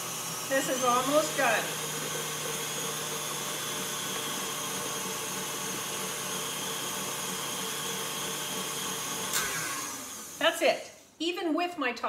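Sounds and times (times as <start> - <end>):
stand mixer whipping cream: 0.0 - 10.4.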